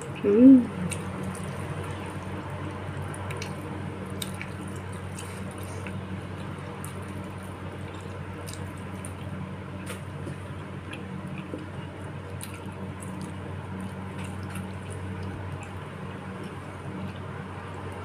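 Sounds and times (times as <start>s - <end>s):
steady low hum: 0.0s - 18.0s
wet chewing and slurping: 0.7s - 17.2s.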